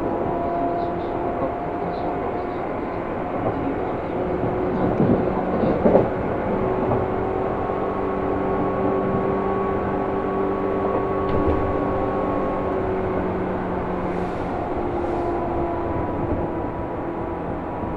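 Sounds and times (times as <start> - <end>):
train clatter: 0.0 - 7.8, 10.8 - 17.9
train rumble with hum tones: 0.0 - 17.9.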